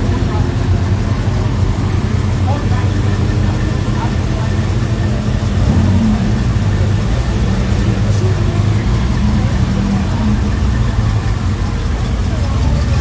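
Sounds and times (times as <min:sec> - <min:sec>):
car engines running at low speed: 0:00.0 - 0:13.0.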